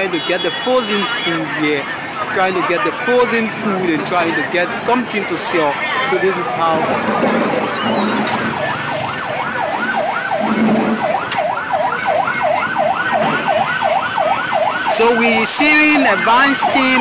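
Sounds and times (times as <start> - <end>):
rapid yelp siren: 0.0 - 3.4, 5.3 - 17.0.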